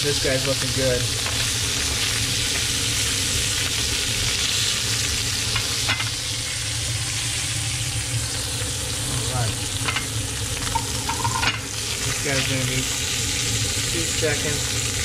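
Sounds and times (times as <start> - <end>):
fish sizzling in a frying pan: 0.0 - 15.0.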